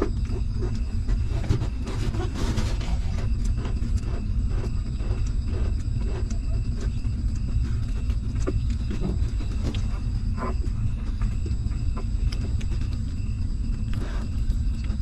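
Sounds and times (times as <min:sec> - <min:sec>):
puppies suckling: 0:00.0 - 0:15.0.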